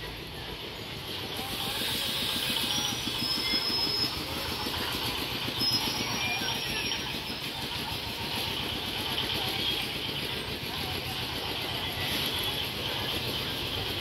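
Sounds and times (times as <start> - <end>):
train wheels rumbling on rails: 0.0 - 14.0
high wheel squeals: 0.1 - 14.0.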